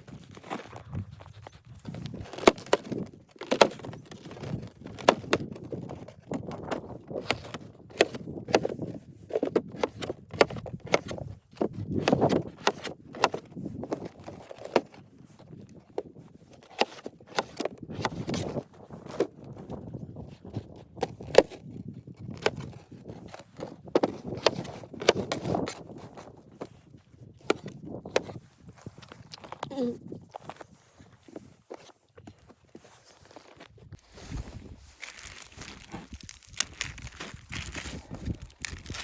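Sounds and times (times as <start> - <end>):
knocks and clacks of handling: 0.0 - 34.0.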